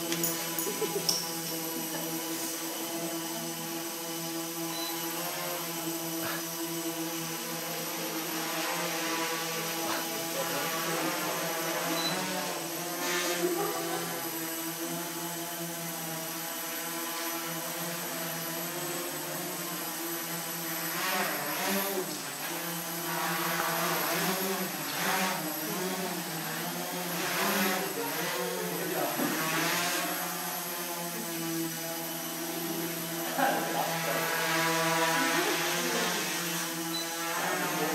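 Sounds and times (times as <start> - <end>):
drone propellers buzzing: 0.0 - 37.9.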